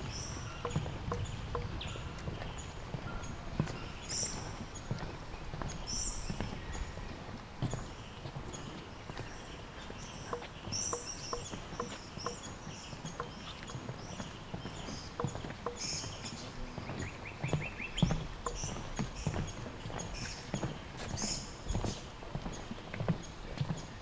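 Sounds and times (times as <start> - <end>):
birds chirping: 0.0 - 24.0
footsteps on walkway deck: 0.0 - 24.0.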